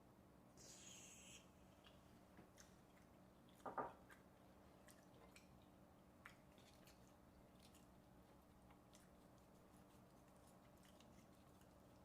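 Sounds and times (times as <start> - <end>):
person chewing: 1.8 - 12.0.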